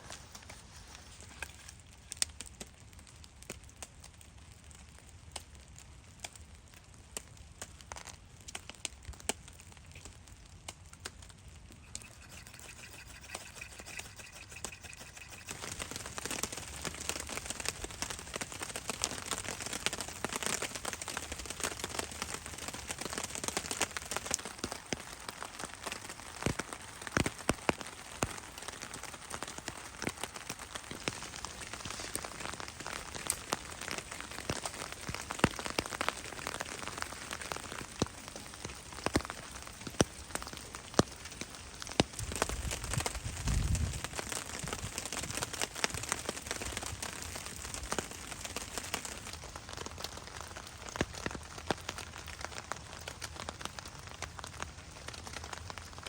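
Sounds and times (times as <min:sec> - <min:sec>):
rain on a plastic sheet: 0:00.0 - 0:56.0.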